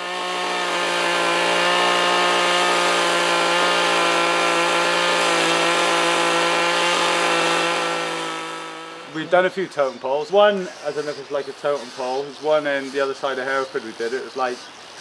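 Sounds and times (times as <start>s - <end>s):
chainsaw at high revs: 0.0s - 15.0s.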